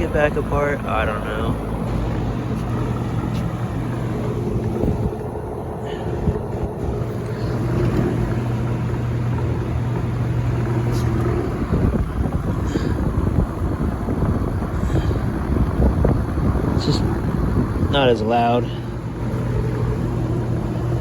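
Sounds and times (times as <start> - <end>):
air rushing from fan blades: 0.0 - 21.0
fan motor hum: 0.0 - 21.0.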